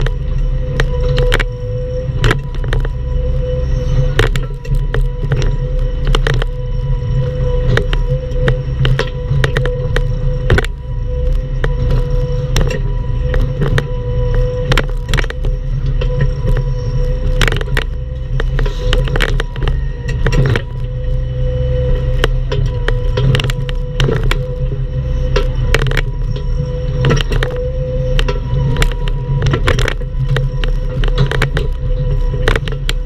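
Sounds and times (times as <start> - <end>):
knocks and clatters of digging: 0.0 - 33.0
mini excavator engine with whine: 0.0 - 33.0.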